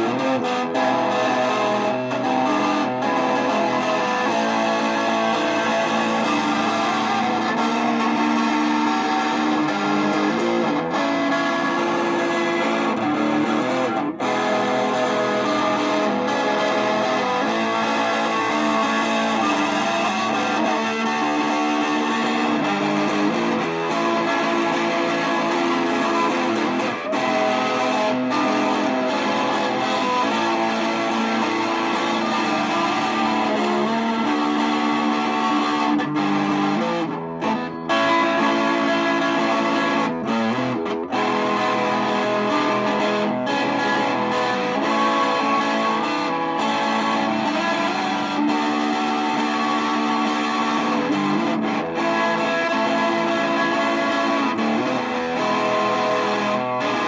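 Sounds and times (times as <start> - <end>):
electric guitar instrumental music: 0.0 - 57.0.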